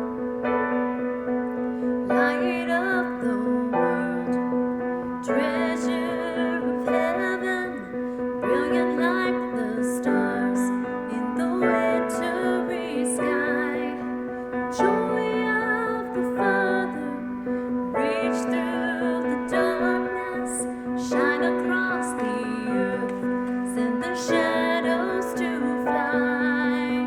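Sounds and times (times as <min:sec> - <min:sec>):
piano chords: 0:00.0 - 0:27.0.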